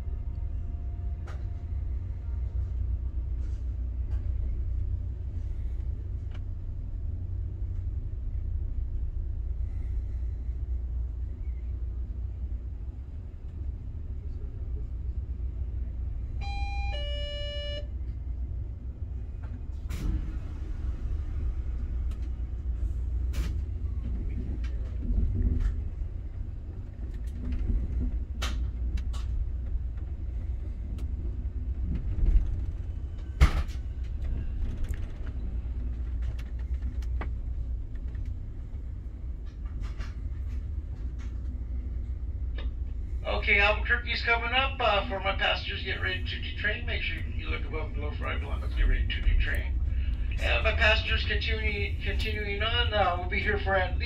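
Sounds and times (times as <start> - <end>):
train car rumbling: 0.0 - 54.0.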